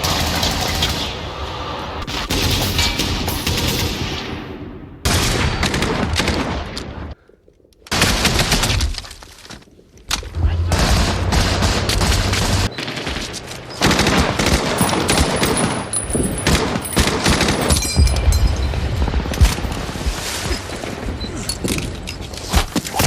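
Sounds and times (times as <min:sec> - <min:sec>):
rifles and machine guns firing: 0:00.0 - 0:07.2, 0:07.9 - 0:09.2, 0:10.1 - 0:23.0.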